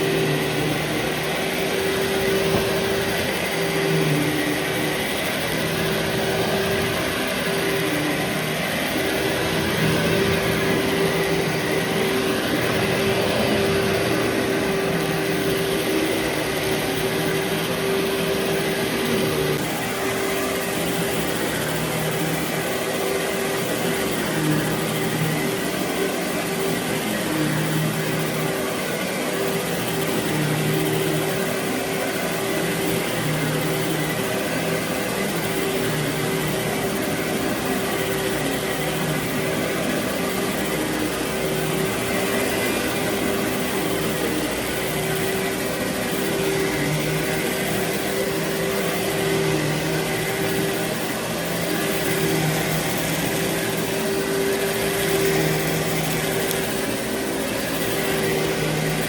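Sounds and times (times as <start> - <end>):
vacuum machine motor hum: 0.0 - 59.0.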